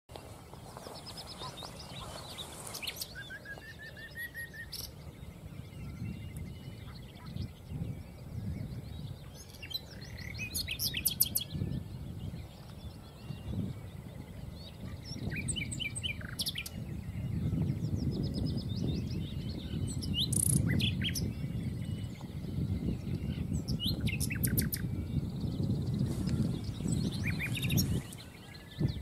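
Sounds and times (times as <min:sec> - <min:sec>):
nightingale singing: 0:00.1 - 0:29.0.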